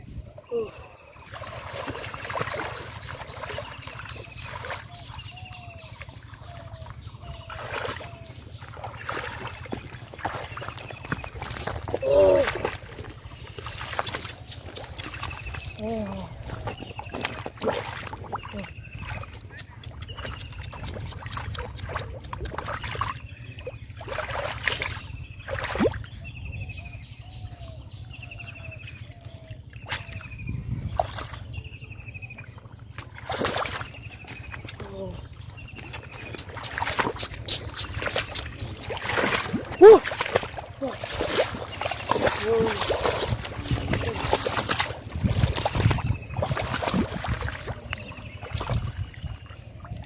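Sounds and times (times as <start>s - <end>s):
birds calling: 0.0s - 50.0s
river water splashing: 0.4s - 26.2s, 28.5s - 50.0s.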